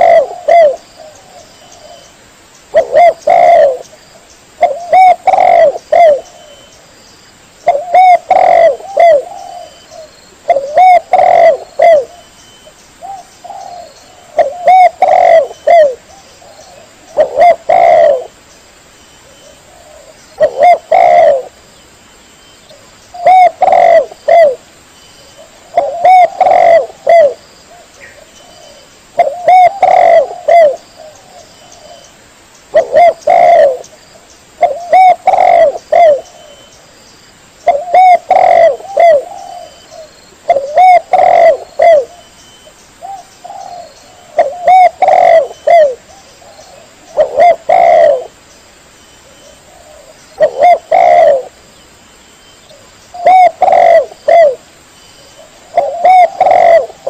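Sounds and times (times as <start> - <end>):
dove cooing: 0.0 - 2.1, 2.7 - 4.0, 4.6 - 6.7, 7.6 - 12.3, 13.0 - 18.4, 19.2 - 21.6, 22.7 - 24.6, 25.3 - 32.1, 32.7 - 33.9, 34.6 - 36.7, 37.6 - 42.3, 43.0 - 48.4, 49.2 - 51.6, 52.7 - 54.7, 55.4 - 57.0.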